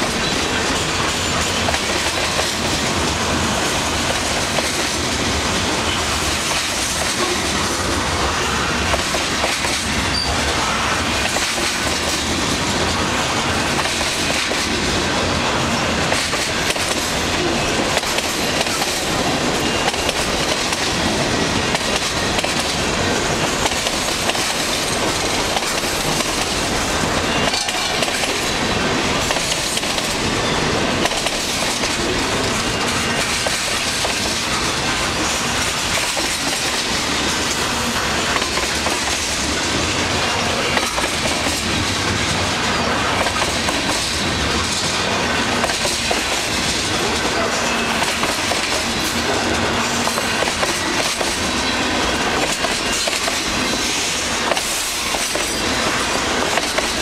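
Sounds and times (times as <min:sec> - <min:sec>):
freight train wheels rumbling: 0:00.0 - 0:57.0
wheels clacking over rail joints: 0:00.0 - 0:57.0.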